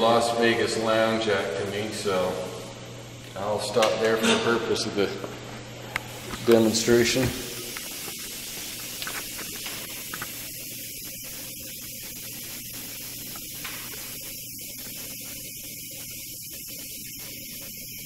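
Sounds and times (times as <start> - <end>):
steady airy hiss: 0.0 - 18.0.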